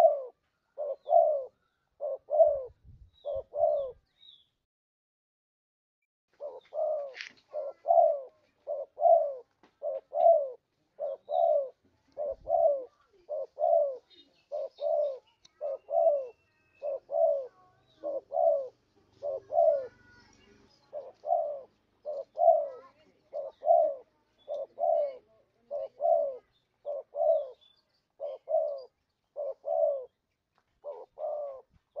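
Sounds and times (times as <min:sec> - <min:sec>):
dove cooing: 0:00.0 - 0:04.0, 0:06.4 - 0:30.2, 0:30.8 - 0:32.0
small birds chirping: 0:00.0 - 0:04.6, 0:06.3 - 0:32.0.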